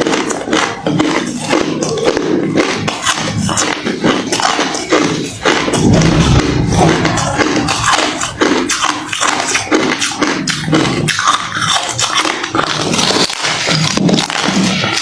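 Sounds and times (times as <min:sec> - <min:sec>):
ice crunching being chewed: 0:00.0 - 0:15.0.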